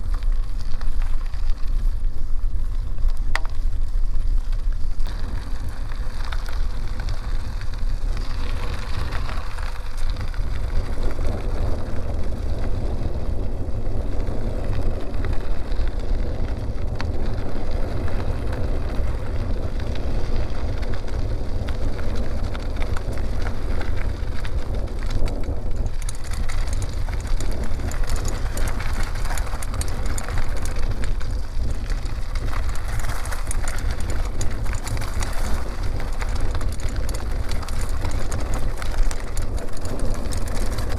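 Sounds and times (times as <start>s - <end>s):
bicycle tyres rolling over gravel: 0.0s - 40.9s
wind rumble on microphone: 0.0s - 40.9s.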